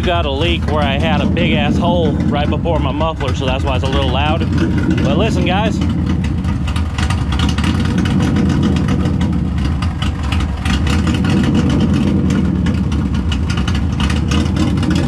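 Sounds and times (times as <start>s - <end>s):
car engine idling roughly: 0.0s - 15.0s.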